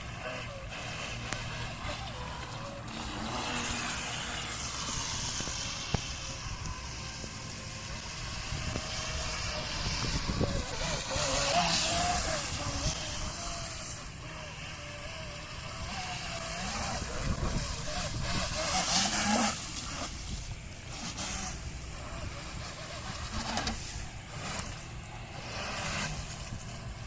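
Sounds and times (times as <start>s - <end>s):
electric motor whine: 0.0s - 27.0s
hiss of water and wind: 0.0s - 27.0s.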